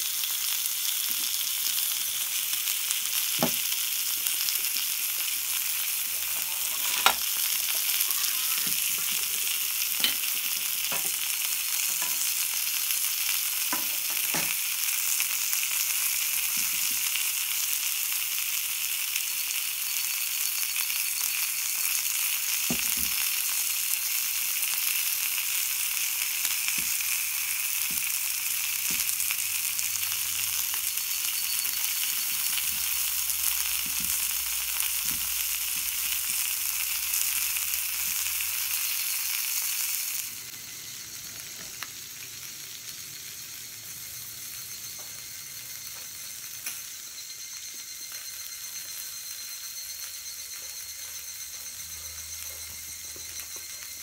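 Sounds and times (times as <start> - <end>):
steady hiss: 0.0 - 51.4.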